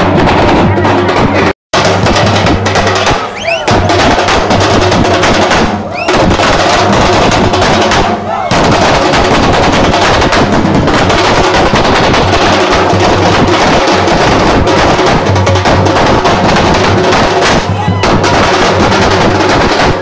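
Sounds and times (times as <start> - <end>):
dense rapid drumming: 0.0 - 20.0.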